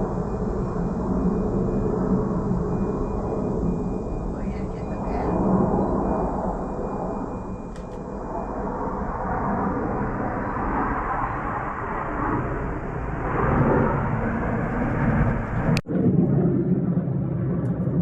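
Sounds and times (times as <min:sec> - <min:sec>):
aircraft flying over: 0:00.0 - 0:18.0.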